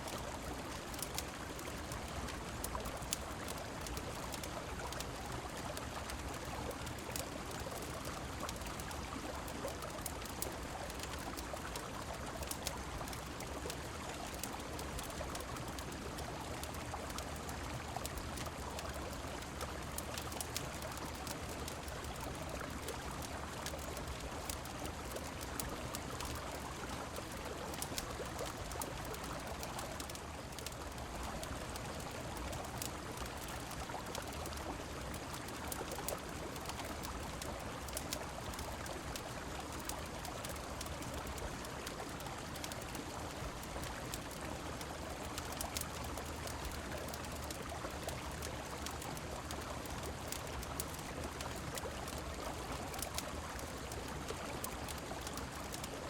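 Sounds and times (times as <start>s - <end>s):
rain falling: 0.0s - 56.0s
wood fire crackling: 0.1s - 56.0s.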